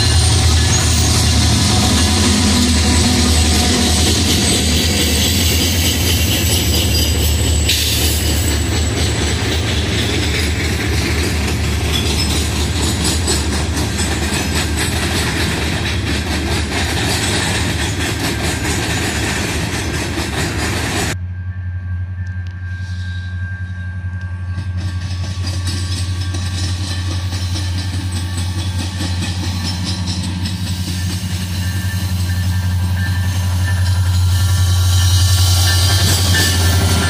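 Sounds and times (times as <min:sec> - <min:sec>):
train wheels clattering on rails: 0:00.0 - 0:21.2, 0:24.2 - 0:37.0
diesel locomotive engines droning: 0:00.0 - 0:37.0
distant train rumble: 0:00.0 - 0:37.0.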